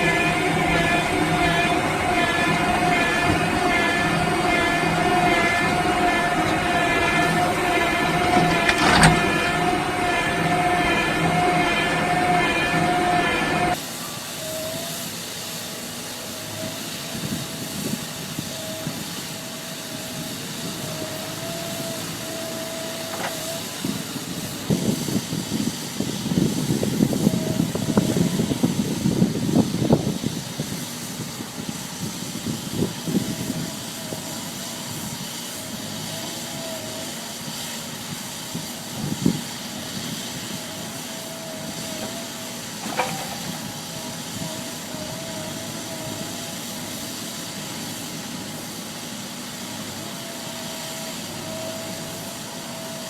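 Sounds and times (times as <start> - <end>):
heavy machinery hissing and whining: 0.0 - 53.0.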